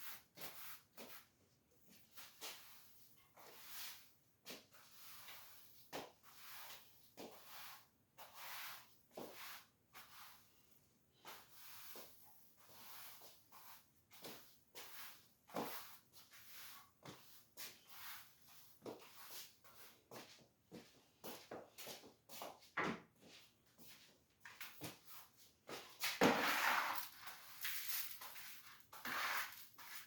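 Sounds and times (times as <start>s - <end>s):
broom sweeping a floor: 0.0s - 30.0s.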